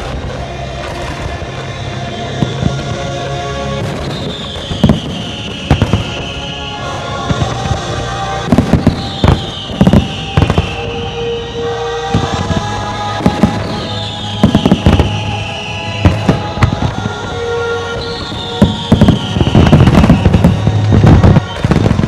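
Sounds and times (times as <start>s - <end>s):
fireworks banging: 0.0s - 22.0s
show music with sustained tones: 0.0s - 22.0s.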